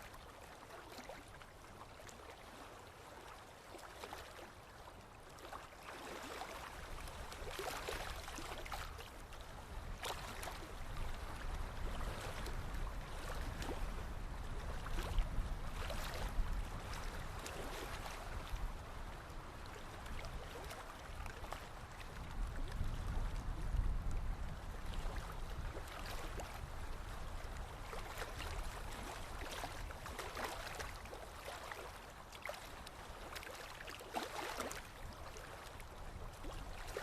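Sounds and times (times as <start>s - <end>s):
river water gurgling and splashing: 0.0s - 37.0s.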